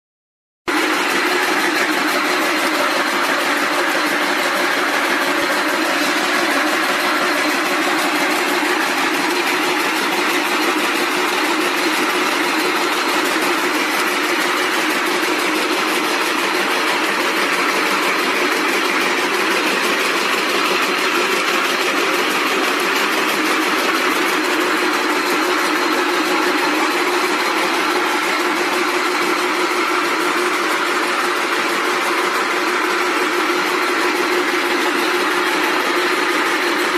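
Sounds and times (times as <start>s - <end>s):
braiding machines clattering: 0.7s - 36.9s.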